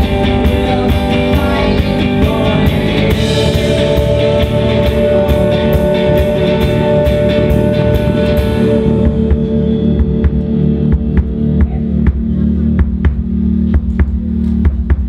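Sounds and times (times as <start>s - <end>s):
indie pop band playing live: 0.0s - 15.0s
steady cymbal beat: 0.0s - 15.0s.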